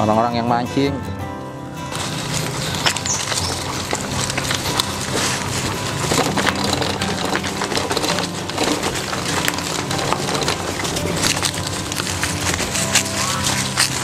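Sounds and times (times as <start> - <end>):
dry leaves and twigs crackling: 1.8 - 14.0.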